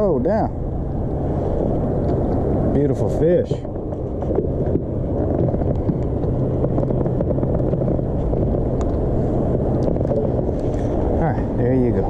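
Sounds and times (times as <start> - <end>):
low engine rumble: 0.0 - 12.0
steady hum: 0.0 - 12.0.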